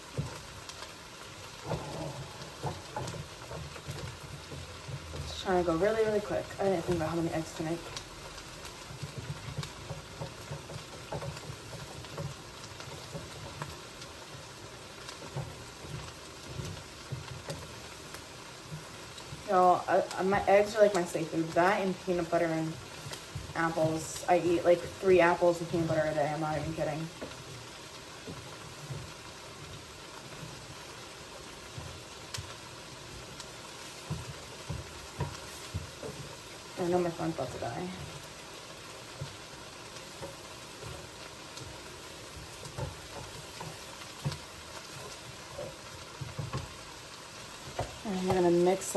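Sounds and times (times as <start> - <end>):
food sizzling in a frying pan: 0.0 - 48.9.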